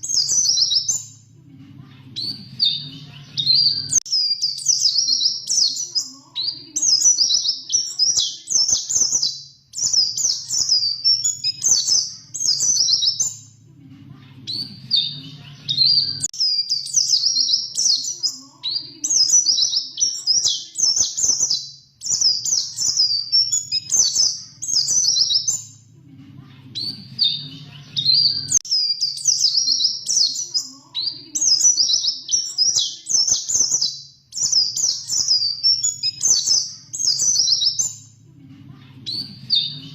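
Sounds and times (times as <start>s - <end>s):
bird twittering song: 0.0s - 1.3s, 2.2s - 13.6s, 14.5s - 25.9s, 26.7s - 38.2s, 39.0s - 39.9s.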